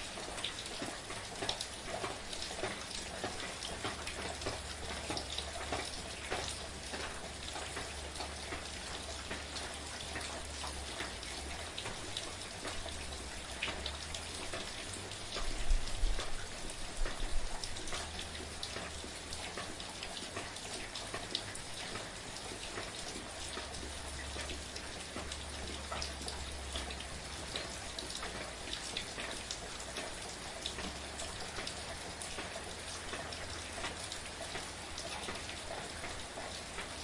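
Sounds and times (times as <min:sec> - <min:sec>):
rain drops pattering: 0:00.0 - 0:37.0.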